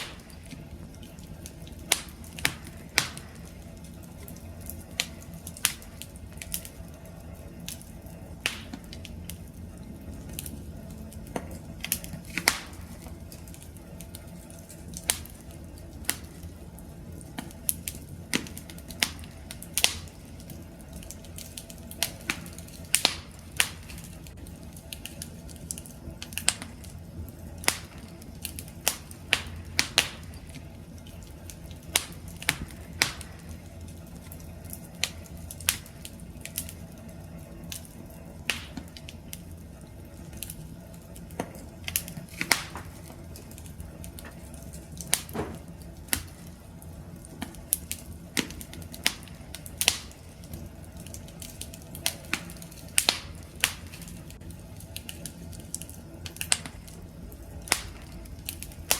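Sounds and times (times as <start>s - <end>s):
low rumble of burning: 0.0s - 58.9s
wood fire crackling: 0.0s - 58.9s.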